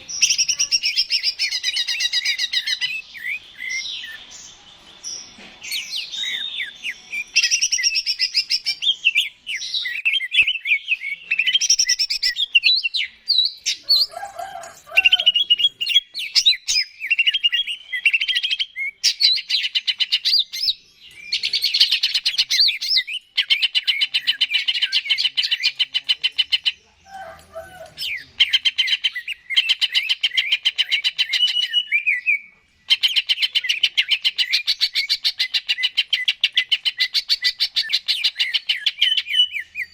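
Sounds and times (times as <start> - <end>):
bird singing with buzzy trills: 0.0 - 14.2, 14.8 - 27.0, 28.0 - 39.9.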